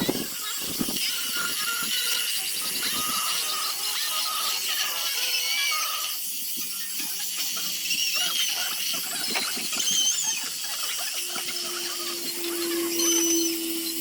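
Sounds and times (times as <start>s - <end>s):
wood being sanded: 0.0s - 14.0s.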